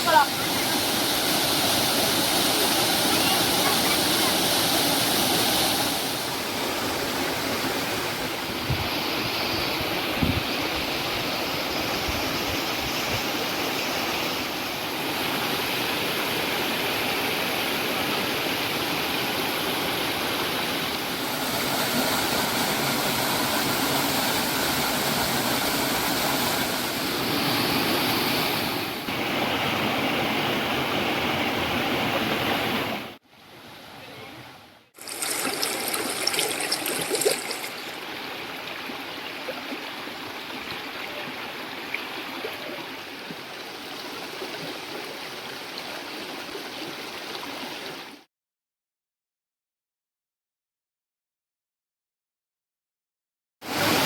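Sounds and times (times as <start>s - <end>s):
running water rushing: 0.0s - 33.9s, 35.0s - 48.2s, 53.7s - 54.0s.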